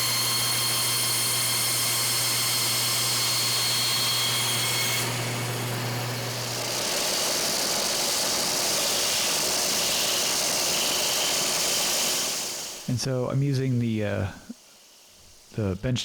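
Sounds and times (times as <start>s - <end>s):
sander motor hum: 0.0s - 15.8s.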